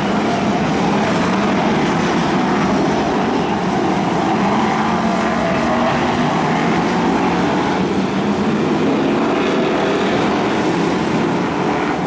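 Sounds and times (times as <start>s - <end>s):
racing car engines roaring: 0.0s - 12.0s.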